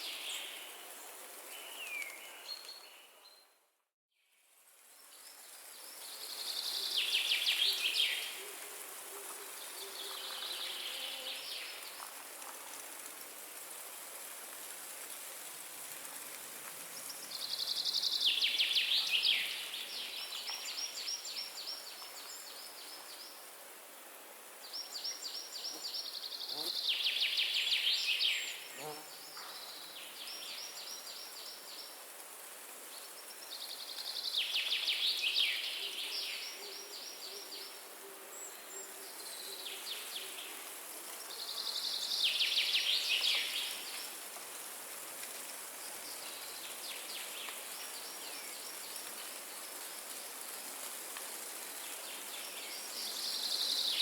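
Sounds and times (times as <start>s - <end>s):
wind in trees: 0.0s - 54.0s.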